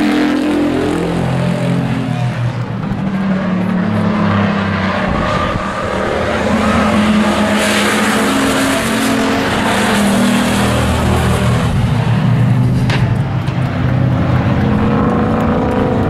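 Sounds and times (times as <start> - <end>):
racing truck engines: 0.0 - 16.0.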